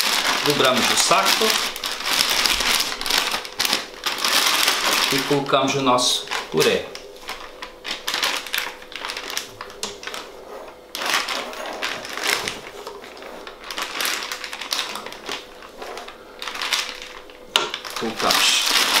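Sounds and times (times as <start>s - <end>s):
plastic piping bag rustling: 0.0s - 19.0s.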